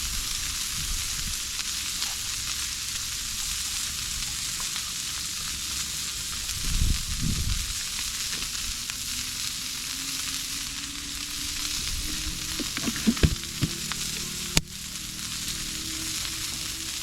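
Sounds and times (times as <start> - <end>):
meat sizzling in a grill pan: 0.0 - 17.0.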